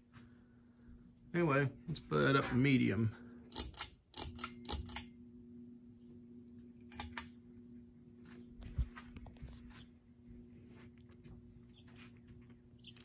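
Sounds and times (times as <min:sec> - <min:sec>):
fan motor humming: 0:00.0 - 0:13.0.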